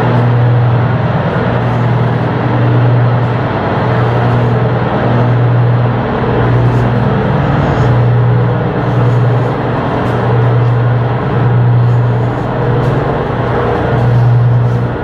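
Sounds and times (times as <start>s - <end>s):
ship diesel engine running: 0.0s - 15.0s.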